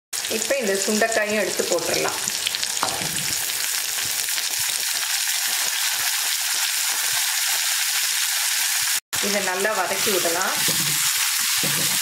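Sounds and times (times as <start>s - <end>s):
berries sizzling in hot oil: 0.2s - 12.0s.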